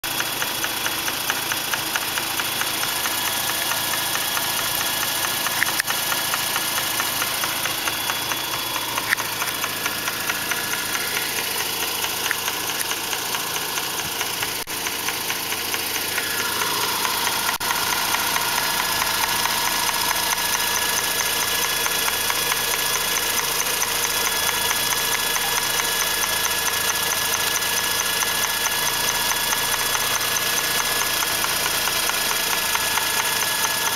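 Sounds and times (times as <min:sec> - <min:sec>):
fast even ticking: 0:00.1 - 0:33.9
rotary engine running: 0:00.1 - 0:33.9.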